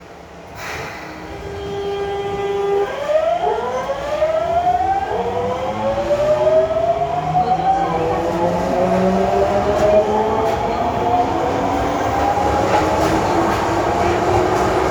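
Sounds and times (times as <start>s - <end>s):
subway train motors whining: 0.0s - 14.9s.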